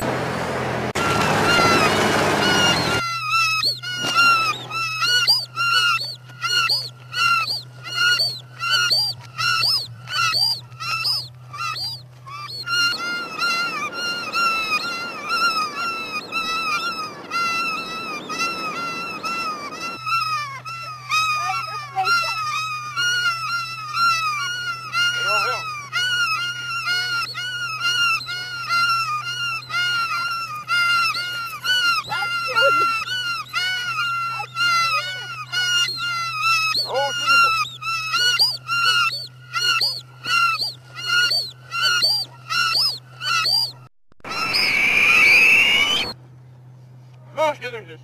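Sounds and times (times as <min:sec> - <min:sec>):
steady low hum: 0:00.0 - 0:48.0
bird squawking calls: 0:01.0 - 0:46.2.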